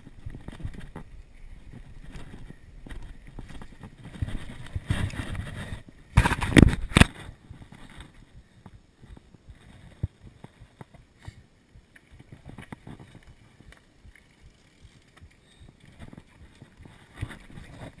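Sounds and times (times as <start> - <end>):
bike rattling over bumps: 0.0 - 18.0.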